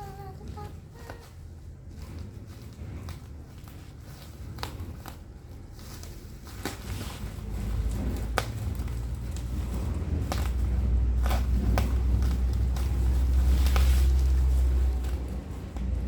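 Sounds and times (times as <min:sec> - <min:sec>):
low rumble: 0:00.0 - 0:16.0
packaging rustling: 0:00.0 - 0:16.0.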